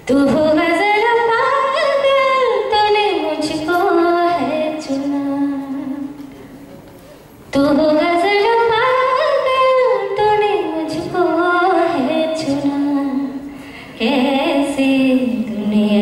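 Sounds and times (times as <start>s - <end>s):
woman singing into a microphone: 0.0s - 6.3s, 7.5s - 16.0s.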